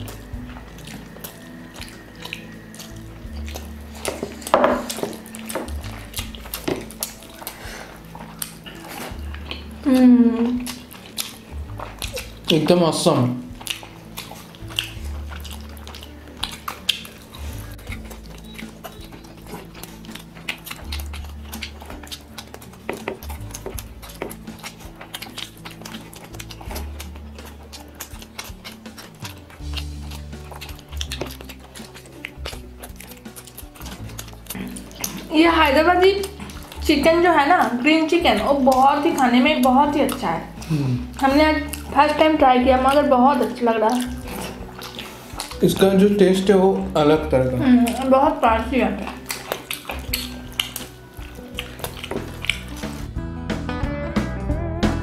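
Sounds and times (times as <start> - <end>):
chewing: 0.0 - 53.2
eating by hand clicks and smacks: 0.0 - 53.2
light music with bass line: 0.0 - 55.0.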